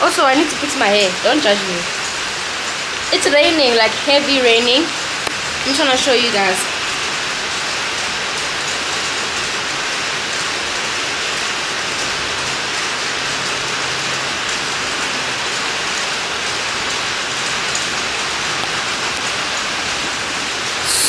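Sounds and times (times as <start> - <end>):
heavy rain on a metal roof: 0.0 - 21.0.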